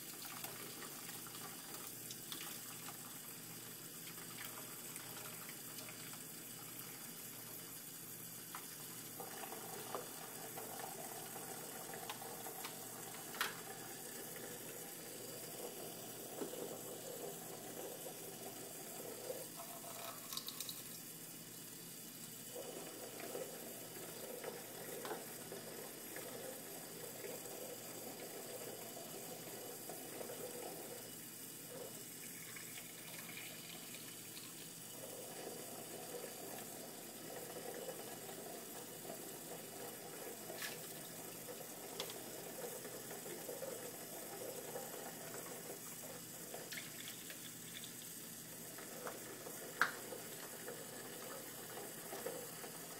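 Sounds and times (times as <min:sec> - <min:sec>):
faucet running into sink: 0:00.0 - 0:52.9.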